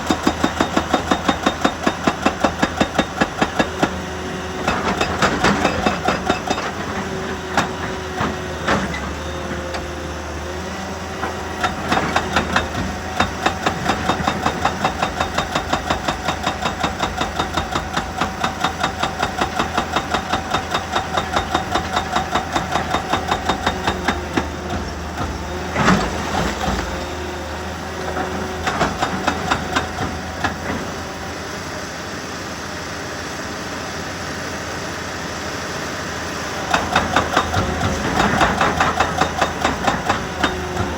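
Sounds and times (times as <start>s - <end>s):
heavy machinery running: 0.0s - 40.9s.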